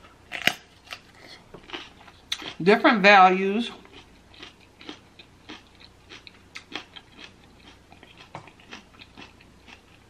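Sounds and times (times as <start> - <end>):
person chewing with wet smacks: 0.4 - 2.6, 3.8 - 10.0.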